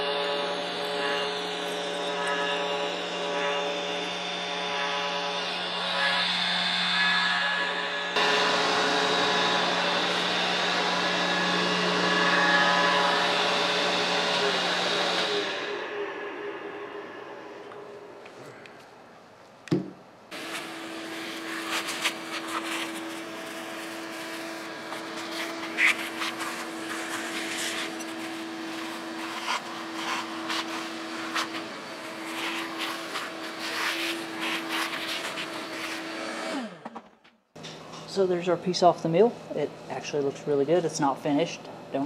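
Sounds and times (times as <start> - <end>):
shop vacuum humming: 0.0 - 19.0, 19.7 - 42.0.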